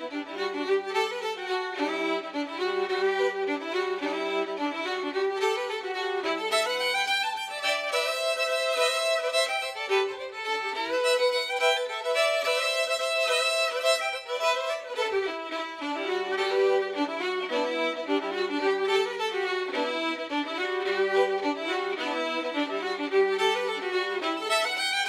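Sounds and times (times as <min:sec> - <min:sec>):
folk fiddle tune on violin: 0:00.0 - 0:25.0
low held violin note: 0:00.0 - 0:25.0.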